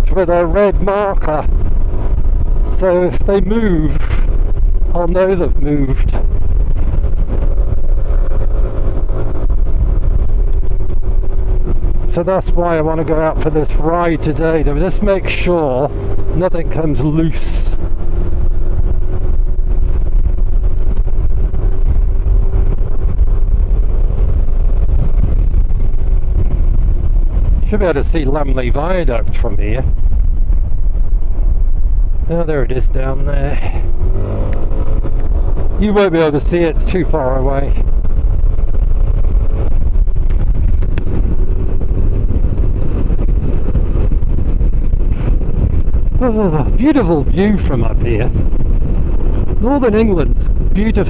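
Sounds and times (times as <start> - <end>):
motorcycle engine cruising: 0.0 - 51.0
wind and road noise: 0.0 - 51.0.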